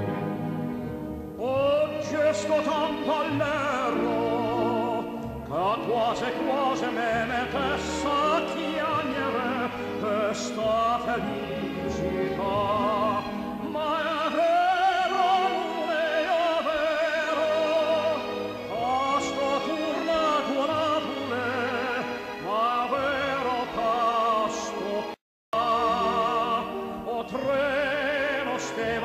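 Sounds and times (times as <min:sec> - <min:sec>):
instrumental accompaniment: 0:00.0 - 0:29.0
operatic singing: 0:01.4 - 0:29.0.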